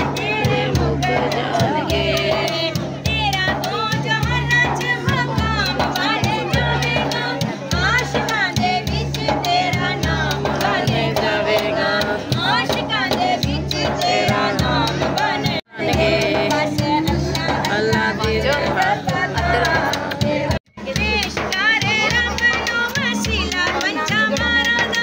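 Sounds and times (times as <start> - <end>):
music with singing: 0.0 - 25.0.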